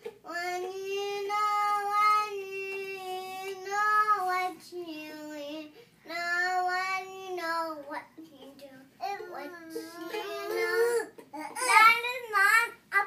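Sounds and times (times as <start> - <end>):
child singing long held notes: 0.2 - 11.7.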